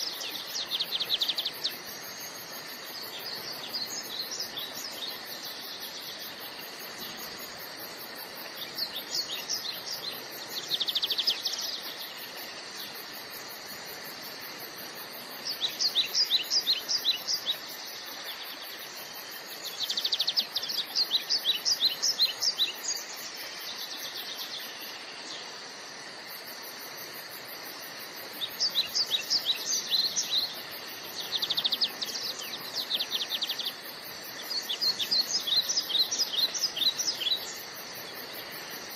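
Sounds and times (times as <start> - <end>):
songbird chirping: 0.0 - 25.6, 27.4 - 38.9
steady background hiss: 0.0 - 38.9.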